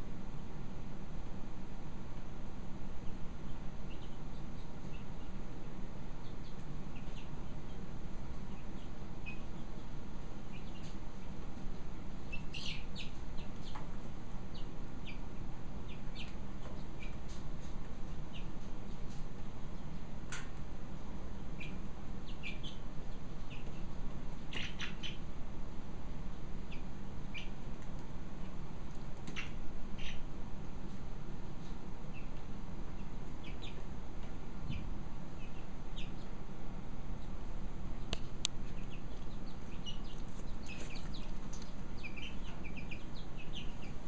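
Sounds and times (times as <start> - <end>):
steady low hum: 0.0 - 44.0
chicks peeping: 2.2 - 44.0.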